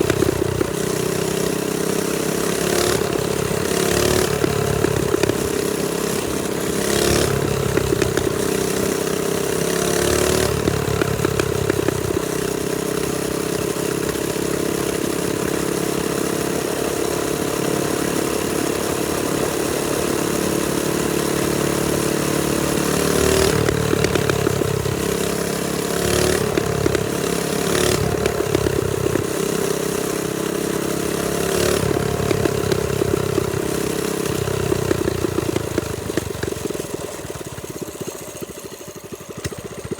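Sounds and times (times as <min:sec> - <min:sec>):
small minibike engine running: 0:00.0 - 0:39.9.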